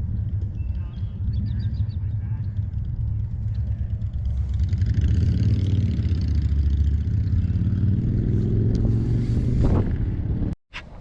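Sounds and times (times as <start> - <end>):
vehicle engine running: 0.0 - 10.6.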